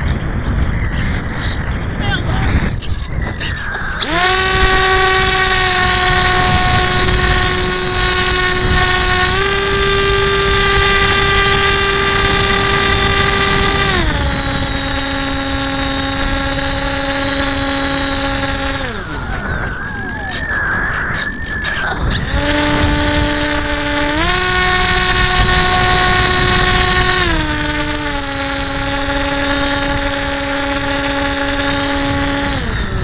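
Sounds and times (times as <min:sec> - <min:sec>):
model plane motor whining: 0:03.4 - 0:33.0.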